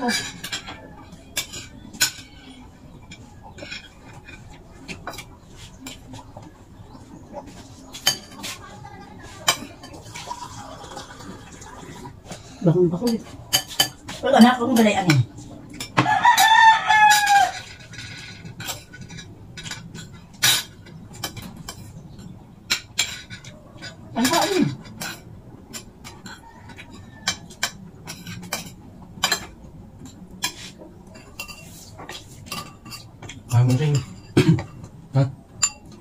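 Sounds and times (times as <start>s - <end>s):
cutlery clinking on plates: 0.0s - 6.5s, 7.4s - 8.6s, 13.0s - 36.0s.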